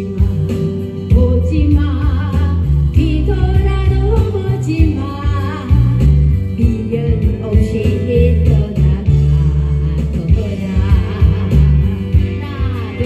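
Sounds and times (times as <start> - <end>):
backing track with bass line: 0.0 - 13.0
woman singing with vibrato: 0.0 - 13.0.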